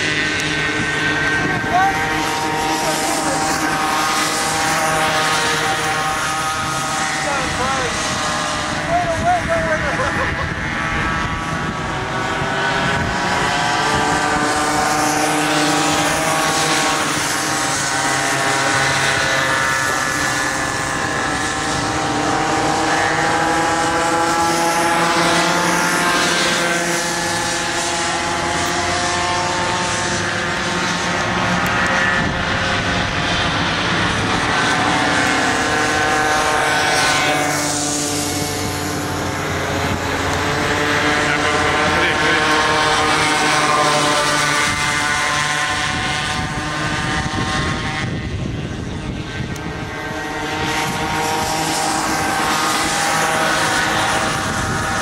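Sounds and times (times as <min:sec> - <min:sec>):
kart engines buzzing: 0:00.0 - 0:55.0.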